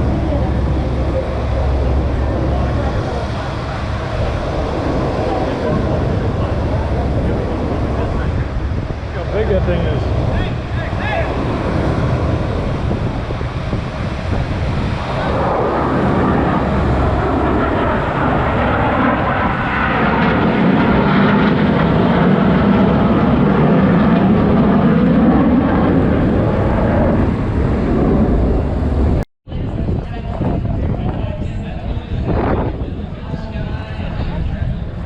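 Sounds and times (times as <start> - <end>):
aircraft engines flying past: 0.0 - 35.0.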